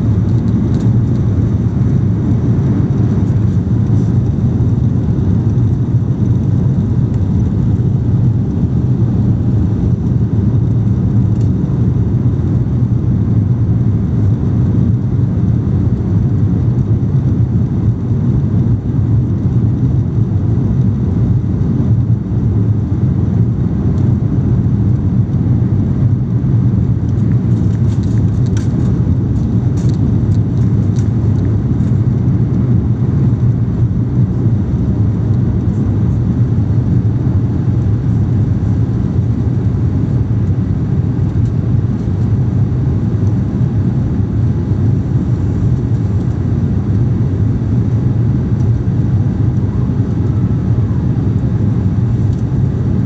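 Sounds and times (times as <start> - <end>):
aircraft cabin engine rumble: 0.0 - 53.0.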